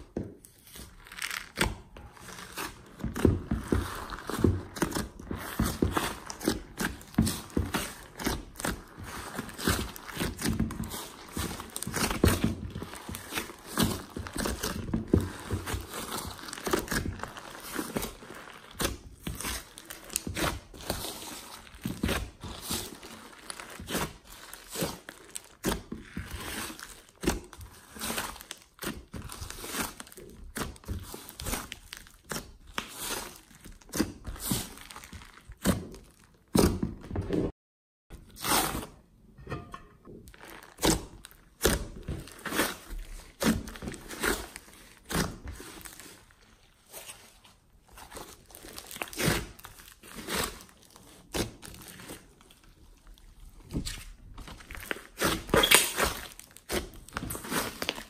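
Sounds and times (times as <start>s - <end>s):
hands squishing sticky slime: 0.0s - 37.4s, 40.3s - 58.0s.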